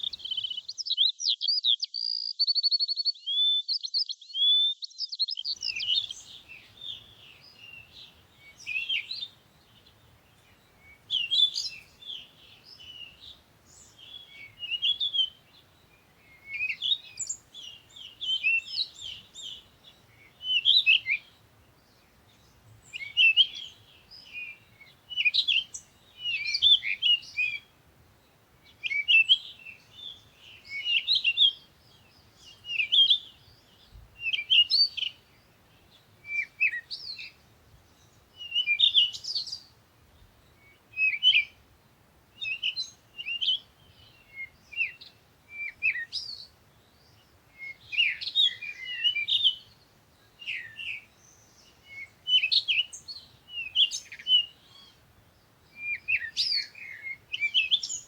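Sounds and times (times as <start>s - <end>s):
birds twittering: 0.0s - 58.0s.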